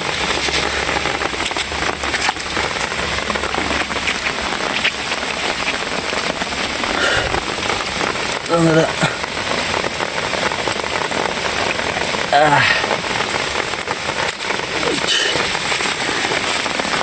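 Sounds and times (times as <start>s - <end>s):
raindrops ticking close by: 0.0s - 17.0s
steady rain falling: 0.0s - 17.0s.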